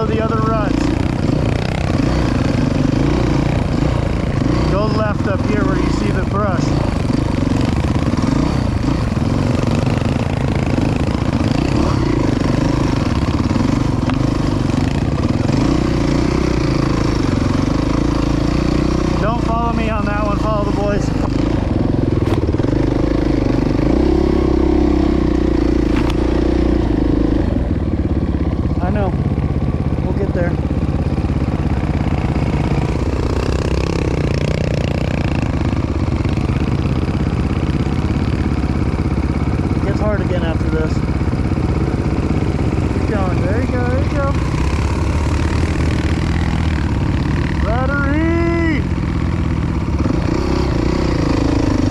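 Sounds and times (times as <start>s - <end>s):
dirt bike engine running: 0.0s - 51.9s.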